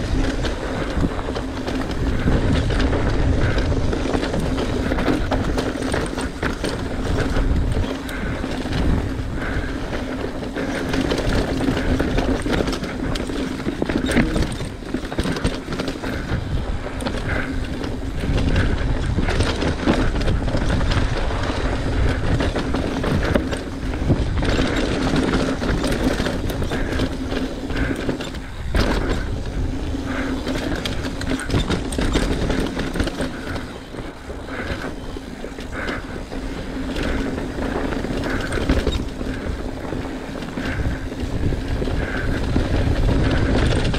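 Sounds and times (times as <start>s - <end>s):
bike knocking and rattling: 0.0s - 43.9s
bike tyres rumbling on dirt: 0.0s - 43.9s
wind on microphone: 0.0s - 43.9s.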